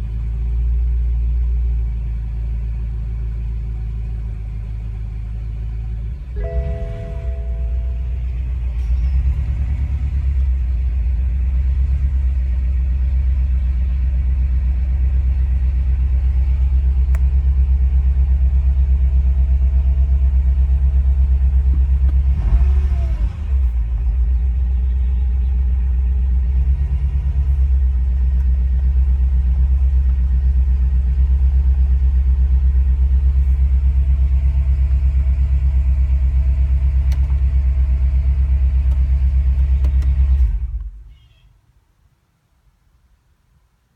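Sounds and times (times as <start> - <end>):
car engine idling: 0.0 - 41.2.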